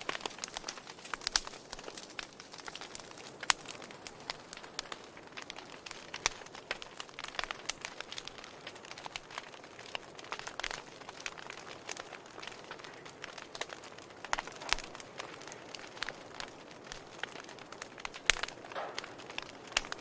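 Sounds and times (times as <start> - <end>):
soft steady hiss: 0.0 - 20.0
wood fire crackling: 0.0 - 20.0.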